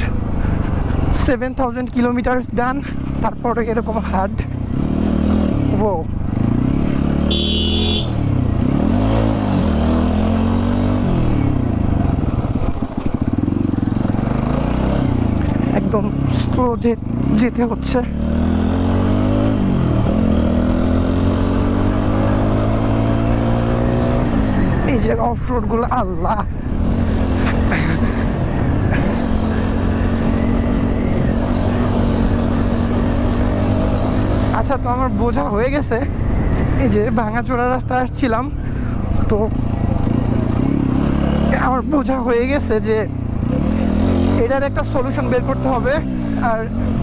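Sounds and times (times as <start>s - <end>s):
motorcycle engine revving: 2.0s - 47.0s.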